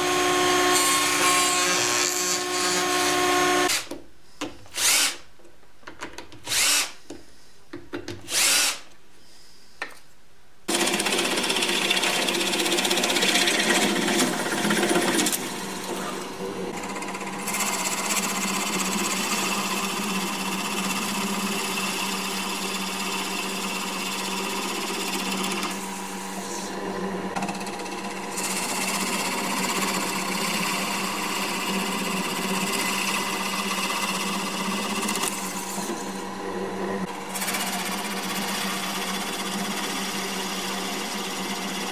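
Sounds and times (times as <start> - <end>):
electric power tool cutting wood: 0.0 - 3.9, 6.5 - 6.9, 8.3 - 8.8, 10.7 - 41.9.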